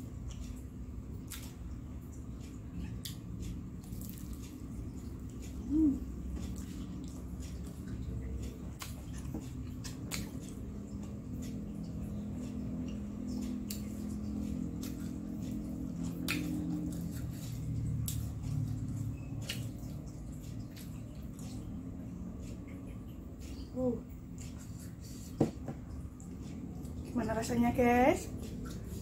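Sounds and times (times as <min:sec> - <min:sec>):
chewing with wet mouth noises: 0:00.0 - 0:27.2, 0:28.2 - 0:29.0
steady low hum: 0:00.0 - 0:29.0.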